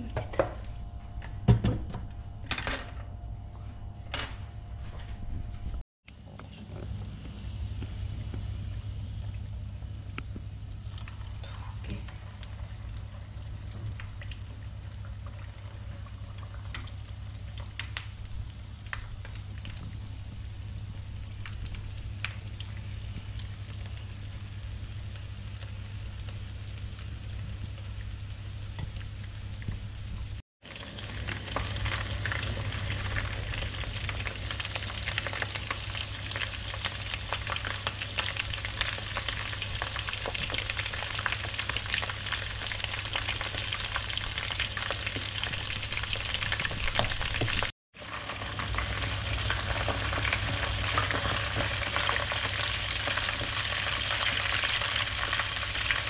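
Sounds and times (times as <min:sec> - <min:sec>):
shrimp deep-frying in oil: 0:08.0 - 0:56.0.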